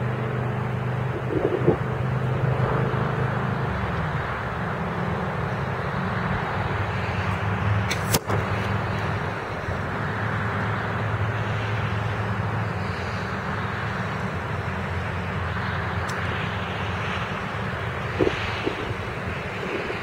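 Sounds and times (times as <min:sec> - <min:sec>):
noisy low rumble: 0:00.0 - 0:20.0.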